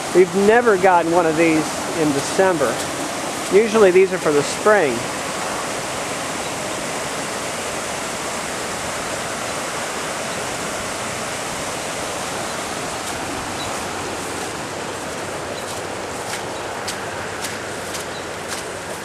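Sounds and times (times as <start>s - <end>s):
flood water rushing: 0.0s - 19.0s.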